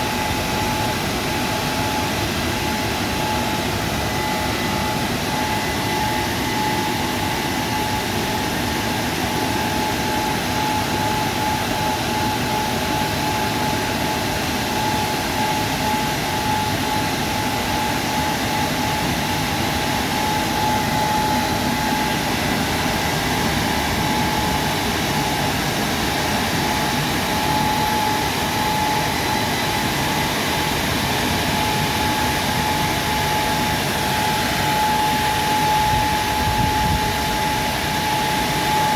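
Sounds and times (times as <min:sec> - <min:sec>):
car wash rushing noise: 0:00.0 - 0:38.9
steady whine: 0:00.0 - 0:38.9.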